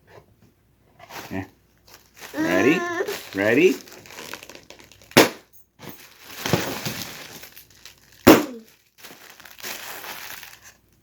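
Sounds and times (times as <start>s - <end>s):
plastic crinkling: 1.2s - 11.0s
bubble wrap popping: 1.9s - 11.0s.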